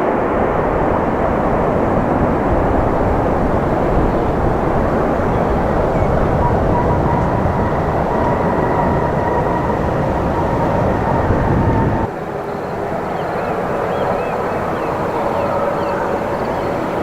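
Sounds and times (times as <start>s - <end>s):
jet engines rushing and whining: 0.0s - 17.0s
open-air background: 0.0s - 17.0s.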